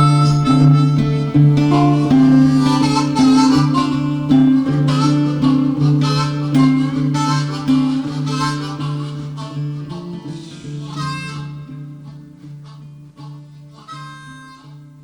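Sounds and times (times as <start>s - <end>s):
instrumental background music: 0.0s - 14.8s.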